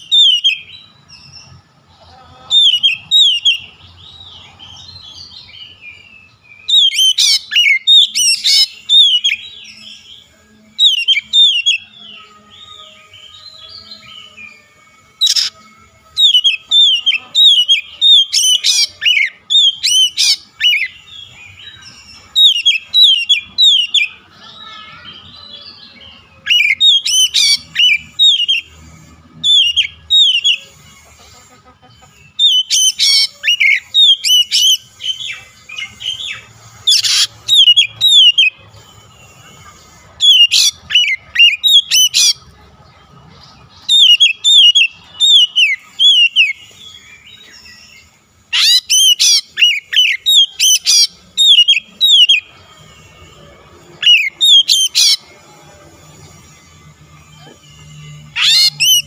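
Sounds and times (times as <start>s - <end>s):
bird song with down-slurred whistles: 0.0s - 1.6s, 2.6s - 24.2s, 25.3s - 31.2s, 32.2s - 42.5s, 43.7s - 59.0s.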